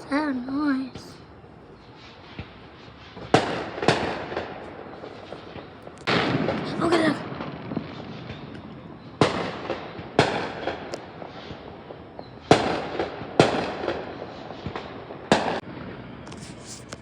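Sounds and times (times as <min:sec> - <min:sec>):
fireworks bangs: 0:01.8 - 0:17.0.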